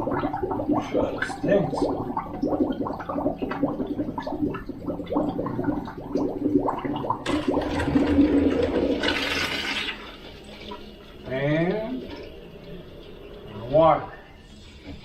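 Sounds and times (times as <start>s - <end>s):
air and water sputtering from pipe: 0.0s - 12.3s.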